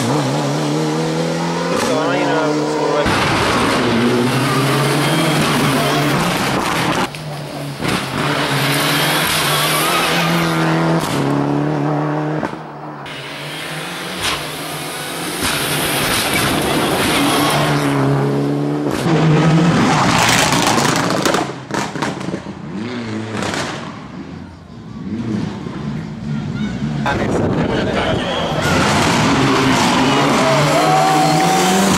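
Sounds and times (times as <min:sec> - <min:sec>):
rally car engine accelerating: 0:00.0 - 0:31.9
rough engine and tyre noise: 0:00.0 - 0:31.9.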